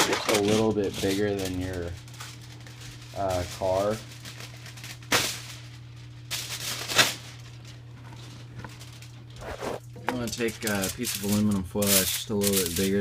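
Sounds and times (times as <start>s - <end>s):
aluminum foil crinkling: 0.0s - 9.4s, 10.1s - 13.0s.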